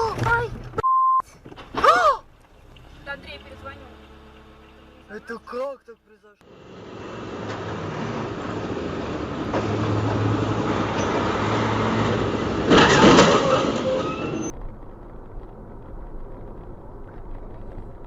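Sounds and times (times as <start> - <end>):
vehicle road and engine noise: 0.0 - 18.0.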